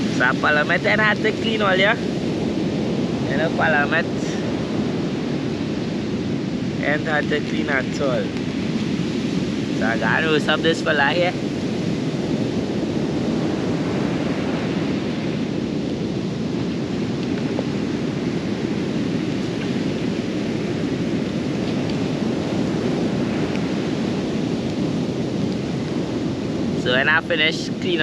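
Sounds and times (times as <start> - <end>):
ocean surf breaking: 0.0 - 28.0
wind: 0.0 - 28.0.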